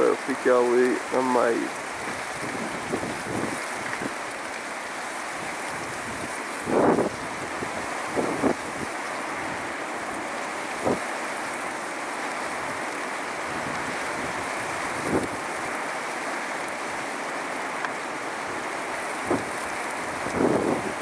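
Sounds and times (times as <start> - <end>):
wind gusts buffeting microphone: 0.0 - 11.8, 12.4 - 21.0
distant surf: 0.0 - 21.0.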